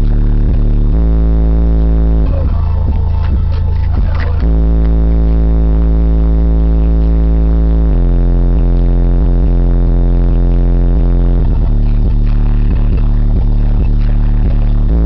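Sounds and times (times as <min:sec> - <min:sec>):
bass-heavy music on car stereo: 0:00.0 - 0:15.0.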